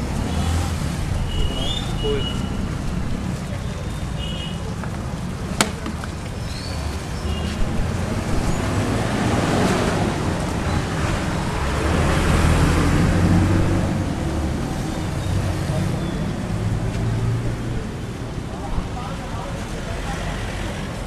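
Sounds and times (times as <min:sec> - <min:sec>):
crowd walking in street: 0:00.0 - 0:21.0.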